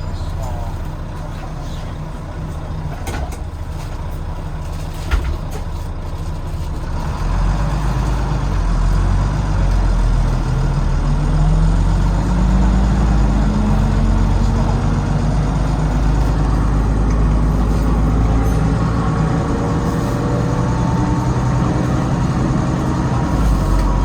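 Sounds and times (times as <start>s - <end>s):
bus diesel engine: 0.0s - 24.0s.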